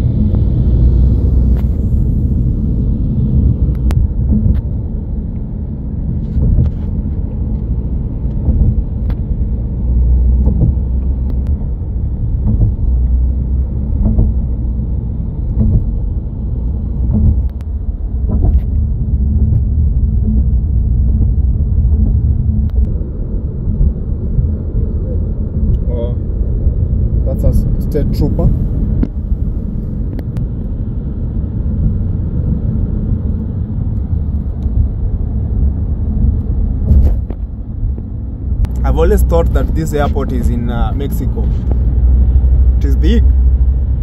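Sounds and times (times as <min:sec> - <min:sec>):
car road noise rumble: 0:00.0 - 0:44.0.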